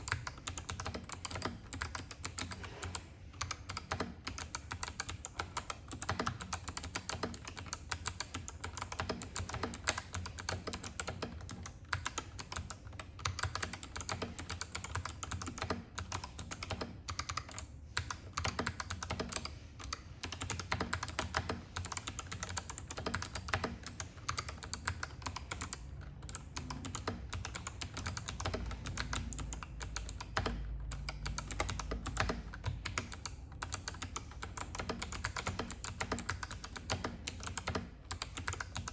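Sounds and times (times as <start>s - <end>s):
mechanical keyboard typing clicks: 0.0s - 38.9s.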